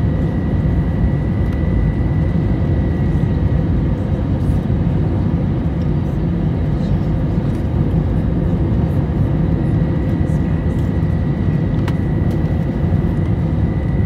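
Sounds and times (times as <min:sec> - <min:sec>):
jet engine and airflow rumble: 0:00.0 - 0:14.0.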